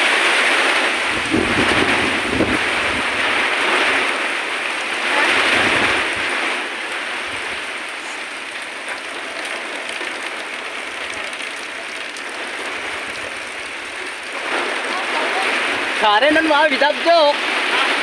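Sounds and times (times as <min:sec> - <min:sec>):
heavy rain pouring: 0:00.0 - 0:18.0
low wind rumbles: 0:00.0 - 0:18.0.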